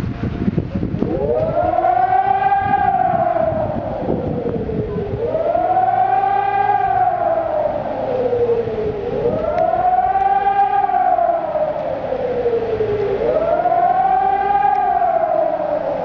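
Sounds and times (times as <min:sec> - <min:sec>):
wailing siren: 0:00.3 - 0:16.0.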